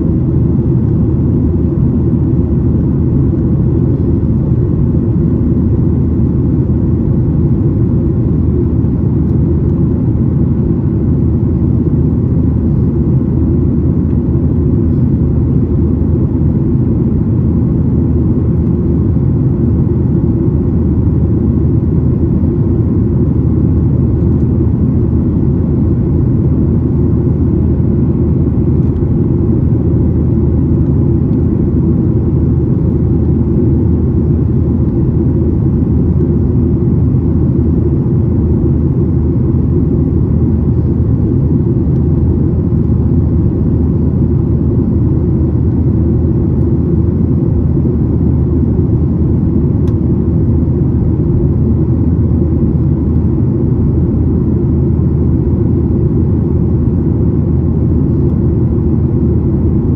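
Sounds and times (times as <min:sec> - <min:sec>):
jet engine roar in cabin: 0:00.0 - 0:59.9.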